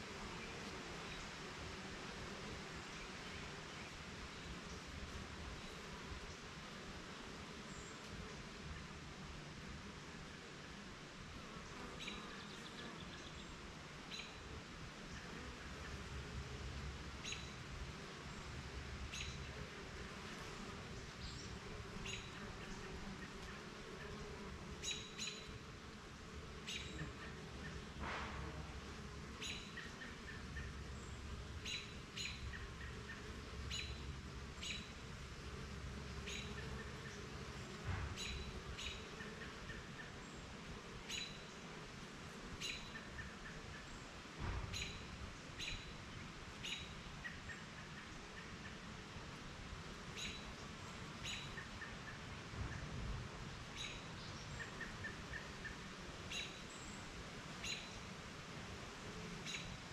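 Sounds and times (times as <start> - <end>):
honeybees humming: 0.0 - 59.9.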